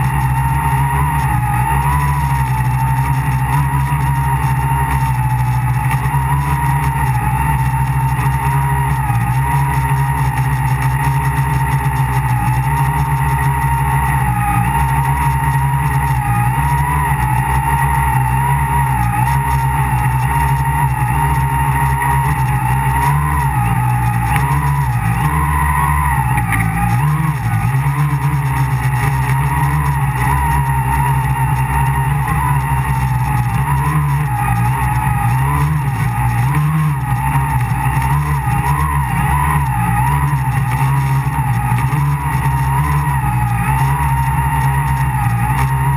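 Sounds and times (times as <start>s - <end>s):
drone motors whining: 0.0s - 45.9s.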